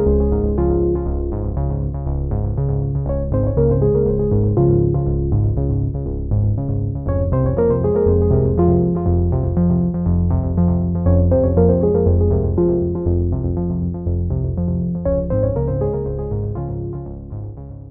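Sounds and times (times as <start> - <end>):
music with pulsing beat and bass: 0.0 - 17.0.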